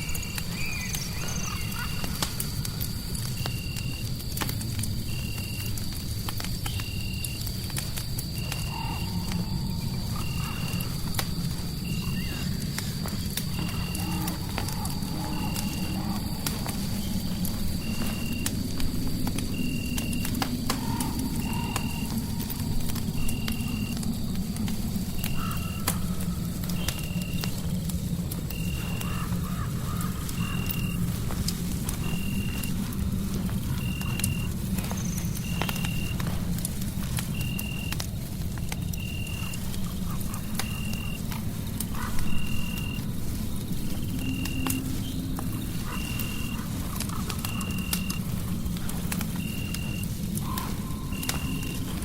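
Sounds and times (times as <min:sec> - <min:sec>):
fireplace crackling and popping: 0:00.0 - 0:52.0
low rumble of fire: 0:00.0 - 0:52.0.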